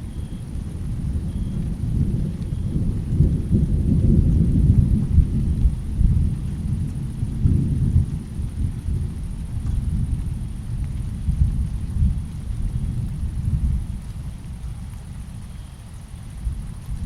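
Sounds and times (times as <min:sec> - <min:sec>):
rolling thunder rumbling: 0:00.0 - 0:17.0.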